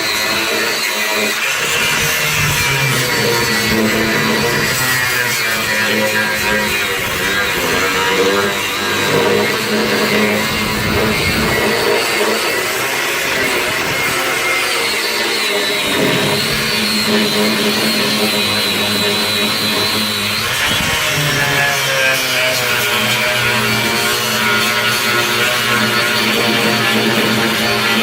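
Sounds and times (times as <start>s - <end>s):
power tool cutting steel: 0.0s - 28.0s.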